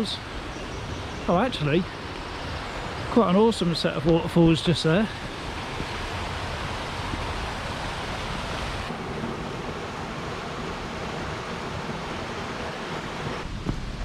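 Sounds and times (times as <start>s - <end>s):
river rushing over waterfalls: 0.0s - 13.6s.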